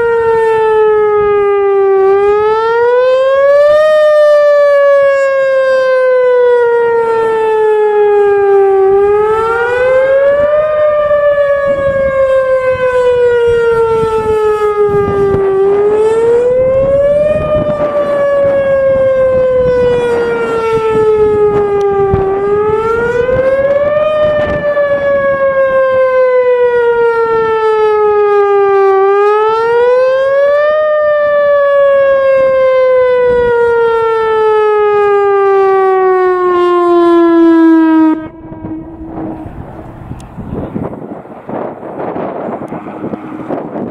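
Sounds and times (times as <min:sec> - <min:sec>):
warning siren wailing: 0:00.0 - 0:43.9.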